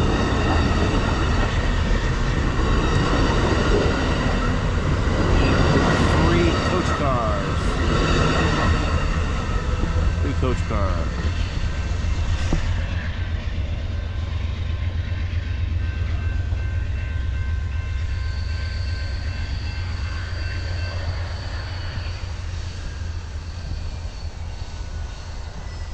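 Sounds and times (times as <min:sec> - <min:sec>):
passenger train rumbling past: 0:00.0 - 0:25.9.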